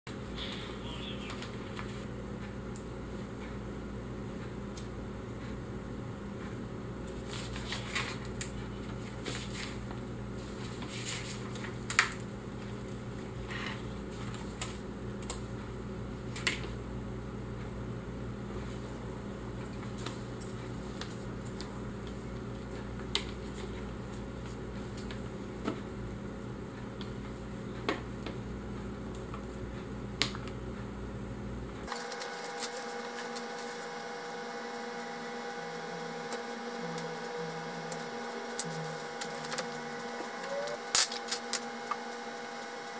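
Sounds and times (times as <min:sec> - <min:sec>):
steady hum: 0:00.1 - 0:42.9.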